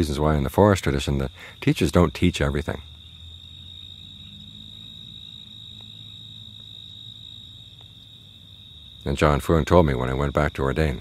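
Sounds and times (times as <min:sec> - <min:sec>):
crickets trilling: 0:00.0 - 0:11.0
faint low hum: 0:00.0 - 0:11.0.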